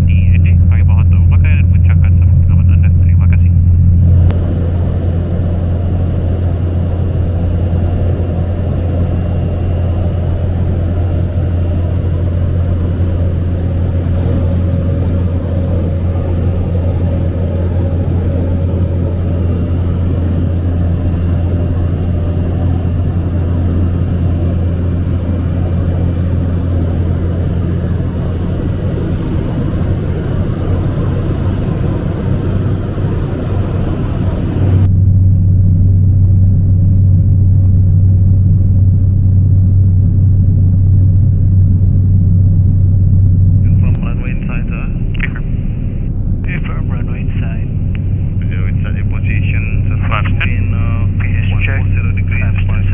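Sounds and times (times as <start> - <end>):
turboprop engine drone: 0.0 - 52.9.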